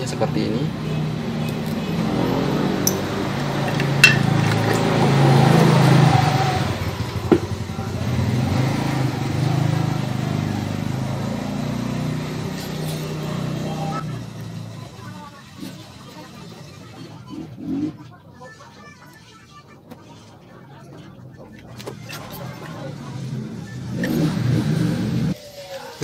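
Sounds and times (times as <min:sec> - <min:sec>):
vehicle engine passing by: 0:00.0 - 0:18.2, 0:22.0 - 0:25.4.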